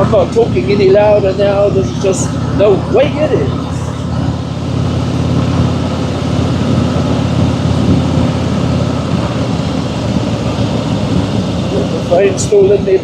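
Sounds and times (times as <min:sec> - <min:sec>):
motorcycle engine cruising: 0:00.0 - 0:12.4
wind and road noise: 0:00.0 - 0:13.0.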